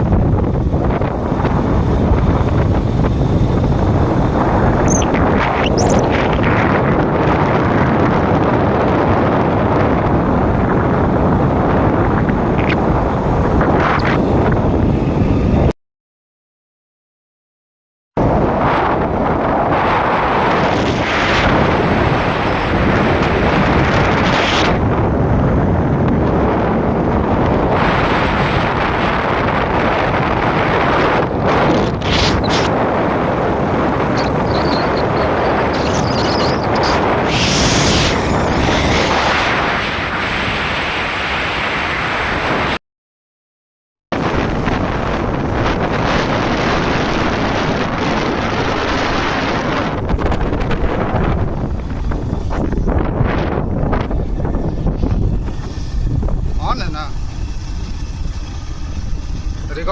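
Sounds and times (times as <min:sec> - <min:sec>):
wind buffeting microphone: 0:00.0 - 0:15.7, 0:18.2 - 0:42.8, 0:44.1 - 0:59.9.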